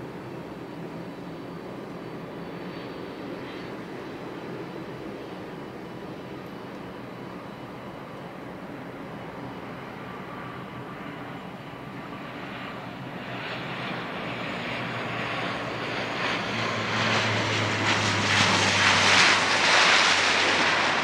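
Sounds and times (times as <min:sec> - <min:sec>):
jet airliner engines running: 0:00.0 - 0:21.0.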